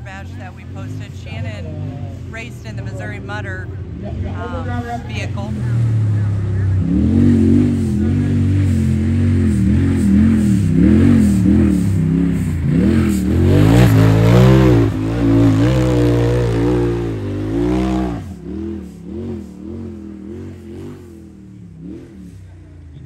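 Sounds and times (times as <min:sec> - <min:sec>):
engine revving: 0:00.0 - 0:23.0.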